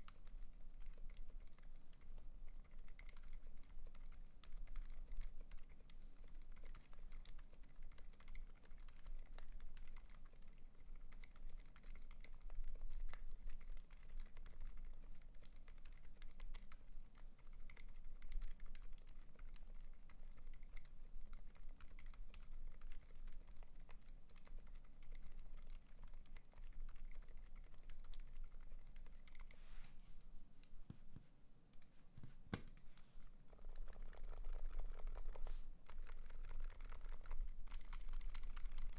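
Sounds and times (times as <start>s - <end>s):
soft muted keyboard typing: 0.0s - 29.6s, 30.6s - 38.9s.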